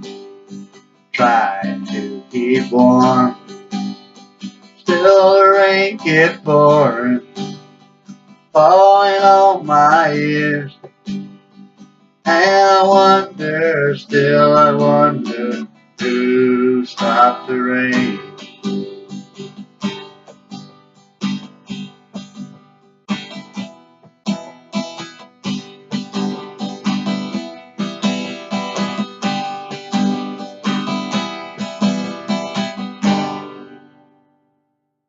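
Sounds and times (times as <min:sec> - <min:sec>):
acoustic guitar strummed and picked: 0:00.0 - 0:34.8.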